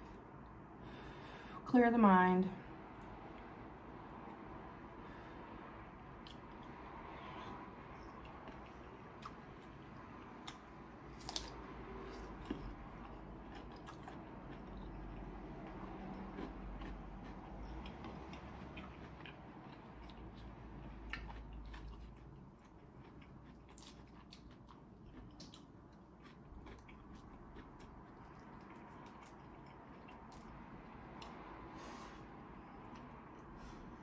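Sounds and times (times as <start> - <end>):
person chewing: 6.1 - 33.8.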